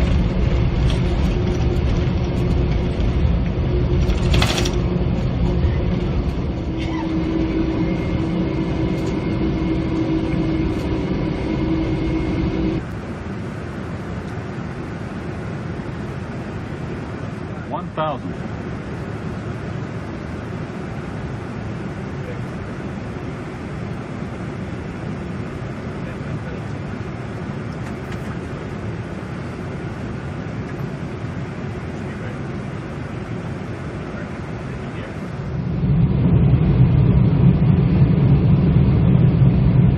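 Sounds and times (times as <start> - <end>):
aircraft cockpit rumble and airflow: 0.0 - 39.9
steady hum: 0.0 - 39.9.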